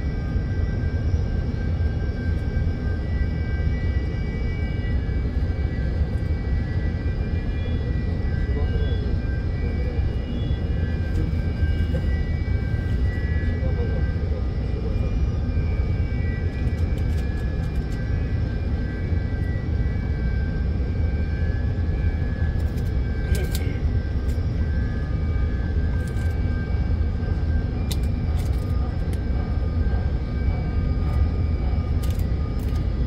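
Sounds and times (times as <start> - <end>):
faint high whining tones: 0.0 - 33.0
ship machinery drone: 0.0 - 33.0.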